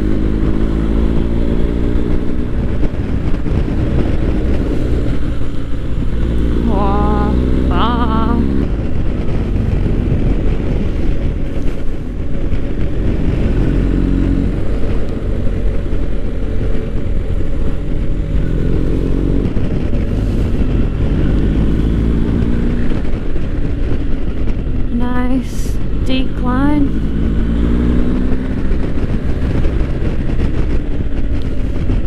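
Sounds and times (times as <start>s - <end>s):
motorcycle engine running: 0.0s - 32.0s
wind rumble on microphone: 0.0s - 32.0s.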